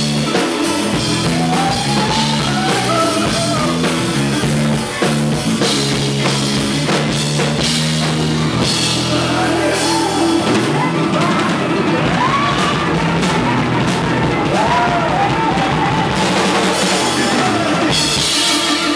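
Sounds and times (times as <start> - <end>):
drum kit: 0.0 - 18.9
electric bass: 0.0 - 18.9
organ chords and lead line: 0.0 - 18.9.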